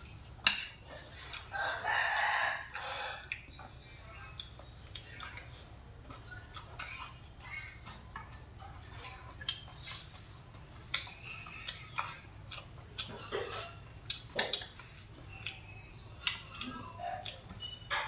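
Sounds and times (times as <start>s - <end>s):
chewing and mouth smacks: 0.4s - 1.6s, 2.6s - 17.8s.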